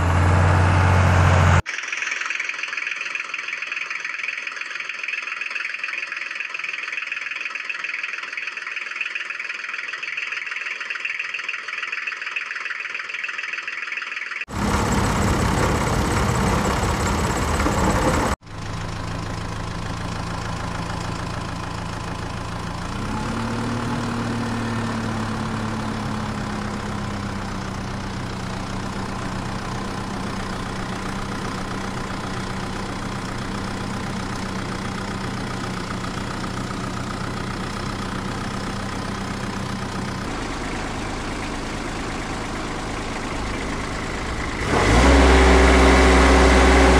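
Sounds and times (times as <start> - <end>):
engine idling low: 8.6 - 46.9.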